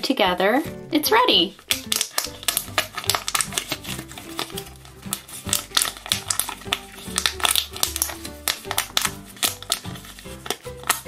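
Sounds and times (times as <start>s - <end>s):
background music: 0.0s - 11.0s
plastic bubbles clicking and popping: 1.1s - 11.0s.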